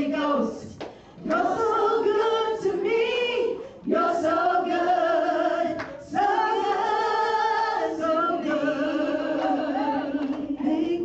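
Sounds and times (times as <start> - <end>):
women singing a worship song: 0.0 - 11.0.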